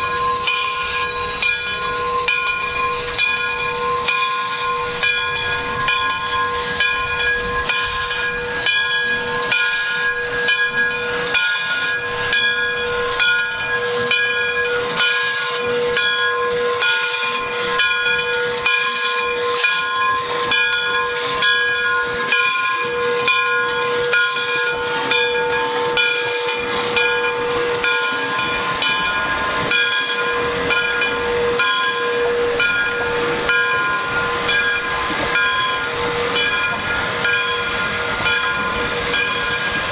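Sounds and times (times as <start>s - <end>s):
steam hissing in bursts: 0.0s - 39.9s.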